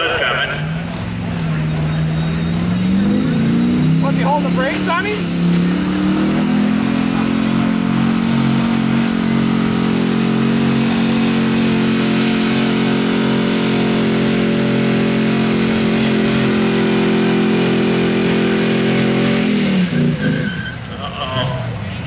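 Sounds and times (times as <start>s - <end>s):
pickup engine at high revs: 0.0s - 22.0s.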